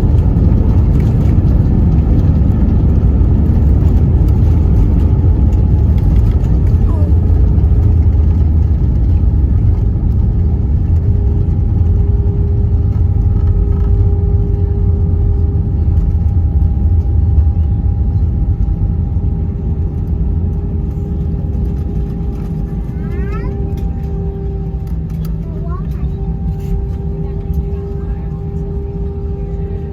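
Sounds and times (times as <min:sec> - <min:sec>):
aircraft rolling on runway: 0:00.0 - 0:29.9.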